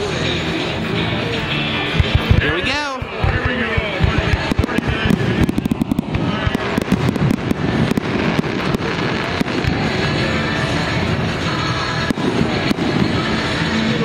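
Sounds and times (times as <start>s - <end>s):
fireworks bangs and crackles: 1.8s - 14.0s.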